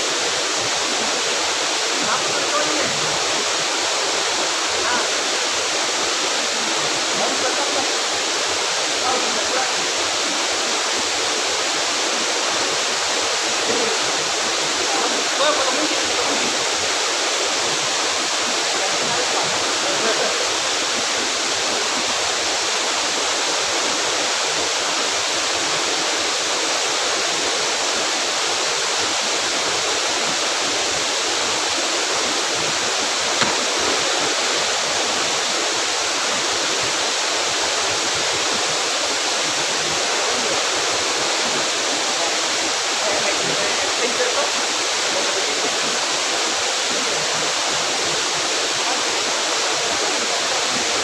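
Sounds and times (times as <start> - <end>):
waterfall roaring: 0.0 - 51.0.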